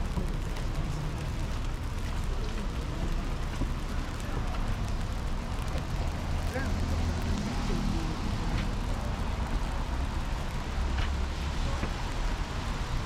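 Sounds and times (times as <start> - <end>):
low rumble of traffic: 0.0 - 13.0
rain hissing: 0.0 - 13.0.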